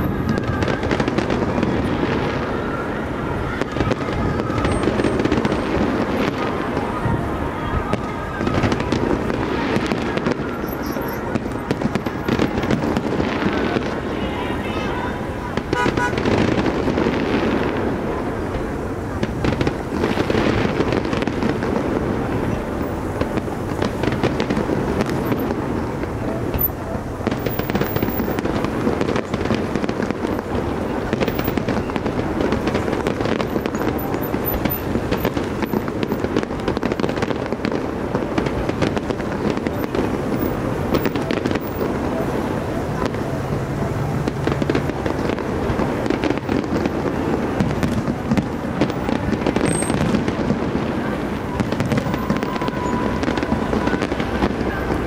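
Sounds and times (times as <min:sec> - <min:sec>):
fireworks popping and crackling: 0:00.0 - 0:55.0.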